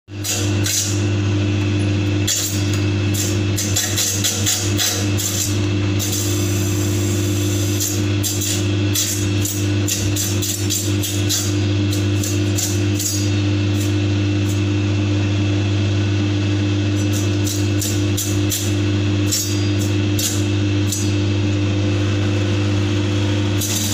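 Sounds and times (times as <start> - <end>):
machine motor humming: 0.1 - 23.9.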